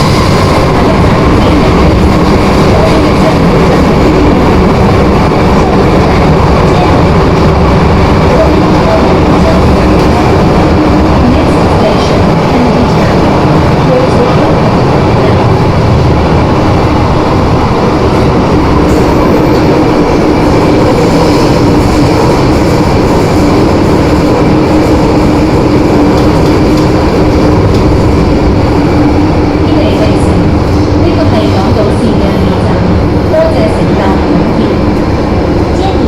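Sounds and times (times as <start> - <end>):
train traction whine: 0.0 - 36.0
wheel and track rumble: 0.0 - 36.0.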